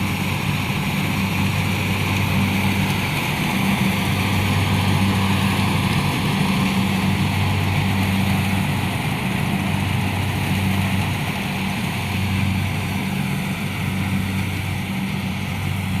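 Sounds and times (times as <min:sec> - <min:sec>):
combine harvester diesel engine humming: 0:00.0 - 0:16.0.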